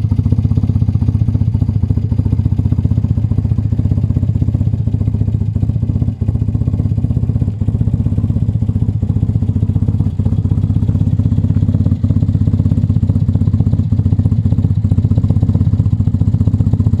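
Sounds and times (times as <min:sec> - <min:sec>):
motorcycle engine running steadily: 0:00.0 - 0:17.0.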